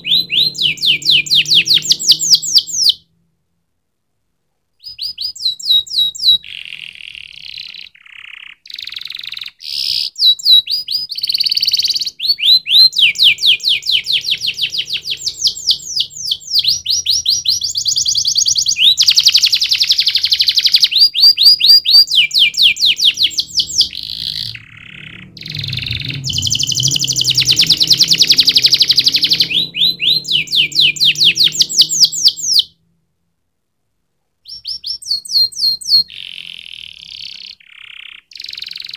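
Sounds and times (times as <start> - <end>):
canary singing trills: 0.0 - 3.1, 4.8 - 32.8, 34.4 - 38.9.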